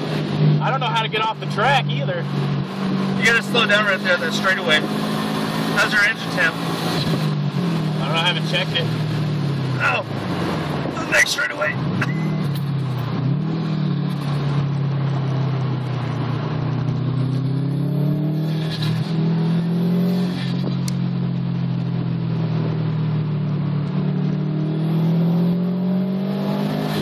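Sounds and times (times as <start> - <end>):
car engine accelerating: 0.0 - 27.0
road and wind noise: 0.0 - 27.0.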